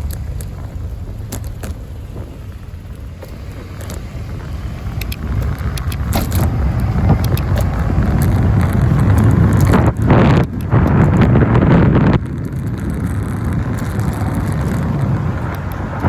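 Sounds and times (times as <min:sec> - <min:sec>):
bicycle rattling clicks: 0:00.0 - 0:16.0
car passing: 0:00.0 - 0:16.0
low wind: 0:00.0 - 0:16.0
road rumble: 0:00.0 - 0:16.0.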